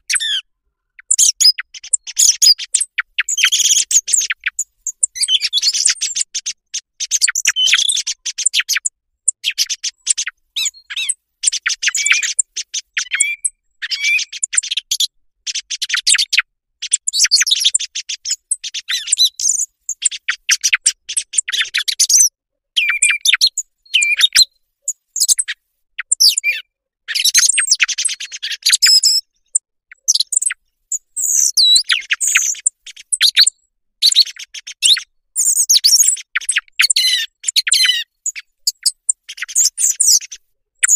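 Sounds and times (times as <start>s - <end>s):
song thrush song: 0.0s - 40.9s.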